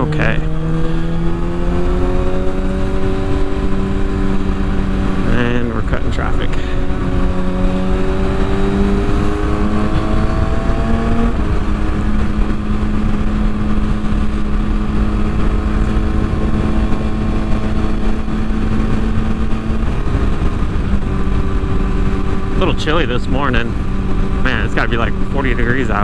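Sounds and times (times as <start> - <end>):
motorcycle engine running: 0.0 - 26.0
wind noise: 0.0 - 26.0.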